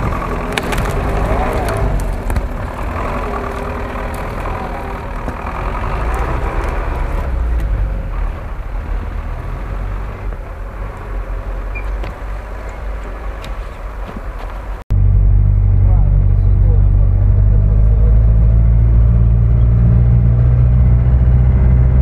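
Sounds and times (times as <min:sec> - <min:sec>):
truck engine under load: 0:00.0 - 0:22.0.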